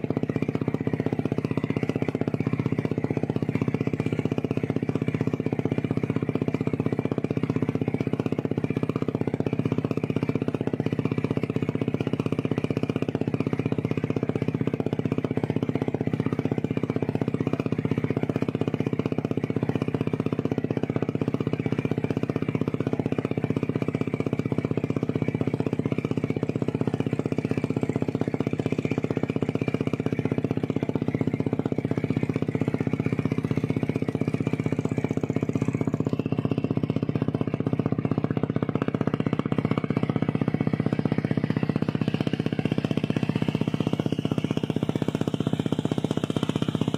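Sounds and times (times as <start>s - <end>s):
boat engine humming: 0.0s - 46.9s.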